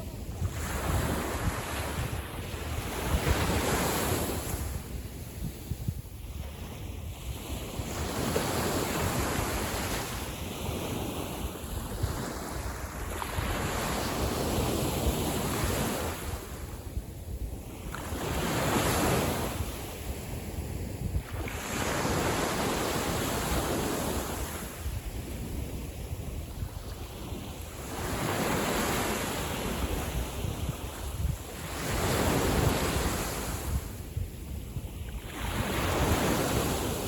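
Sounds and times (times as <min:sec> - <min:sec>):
small waves breaking on shore: 0:00.0 - 0:16.9, 0:17.6 - 0:34.0
wind rumble on microphone: 0:00.0 - 0:37.0.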